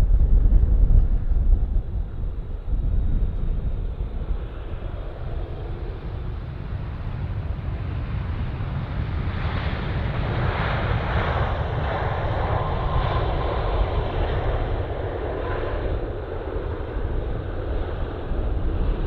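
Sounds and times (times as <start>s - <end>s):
faint engine whine: 0.0s - 19.0s
jet airliner engines: 0.0s - 19.0s
wind rumbling on microphone: 0.0s - 19.0s.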